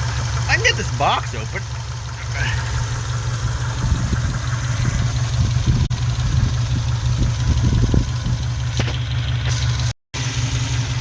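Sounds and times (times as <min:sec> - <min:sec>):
car engine idling loud: 0:00.0 - 0:11.0.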